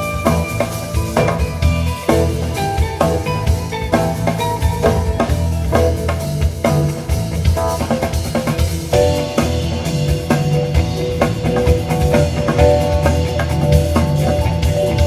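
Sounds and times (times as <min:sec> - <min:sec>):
drum kit played busily: 0:00.0 - 0:15.0
psychedelic rock band jam: 0:00.0 - 0:15.0.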